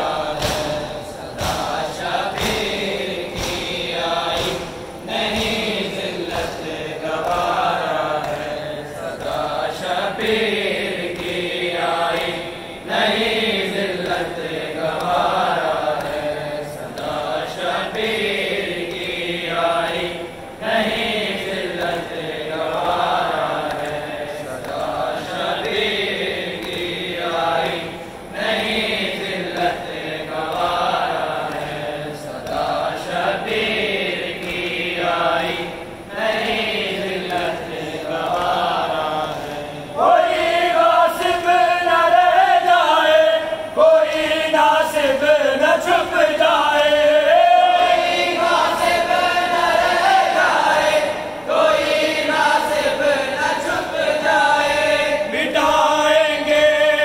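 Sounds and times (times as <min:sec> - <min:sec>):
voices chanting a lament: 0:00.0 - 0:57.0.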